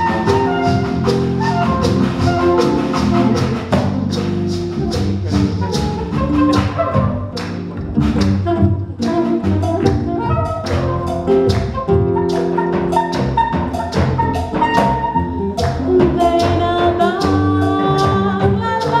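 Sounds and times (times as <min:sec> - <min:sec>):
acoustic guitar: 0:00.0 - 0:19.0
electric bass: 0:00.0 - 0:19.0
hand percussion: 0:00.0 - 0:19.0
soprano saxophone melody: 0:00.0 - 0:19.0.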